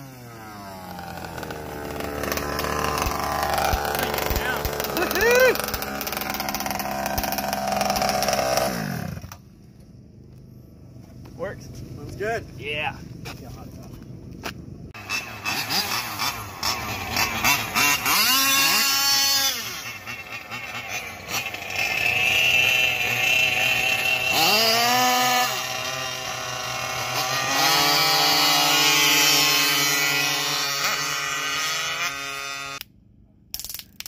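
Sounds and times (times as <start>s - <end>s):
small gas engines revving: 0.0s - 9.6s, 15.0s - 32.8s.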